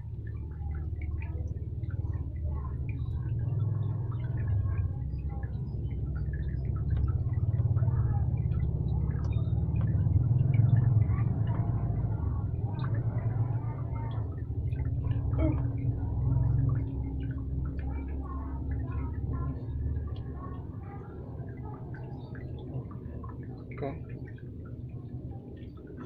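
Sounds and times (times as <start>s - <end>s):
faint steady hum: 0.0s - 26.0s
low uneven rumble: 0.0s - 26.0s.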